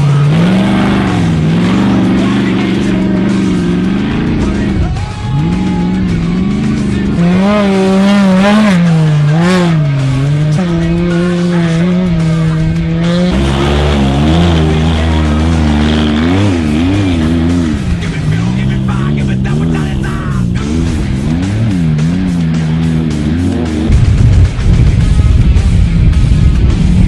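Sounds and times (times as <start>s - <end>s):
background music: 0.0s - 27.0s
race vehicle engine revving: 0.0s - 27.0s.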